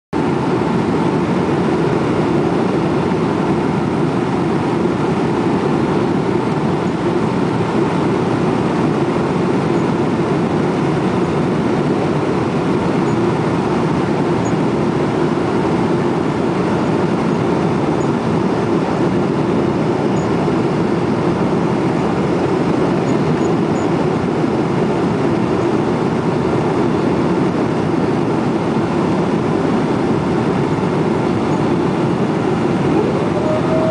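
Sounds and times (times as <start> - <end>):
airflow around airframe: 0.2 - 33.9
jet engines rumbling: 0.2 - 33.9.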